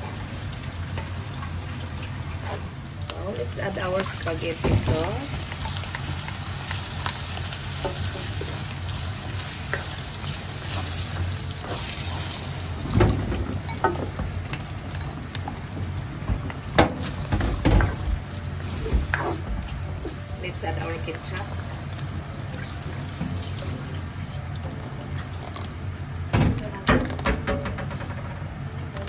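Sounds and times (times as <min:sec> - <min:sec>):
meat sizzling in a frying pan: 0:00.0 - 0:24.6.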